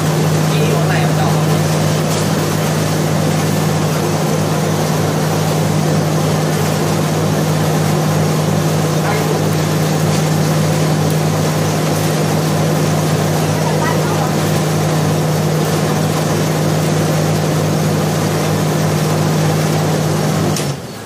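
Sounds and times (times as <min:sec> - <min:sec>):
rice huller running: 0:00.0 - 0:21.0.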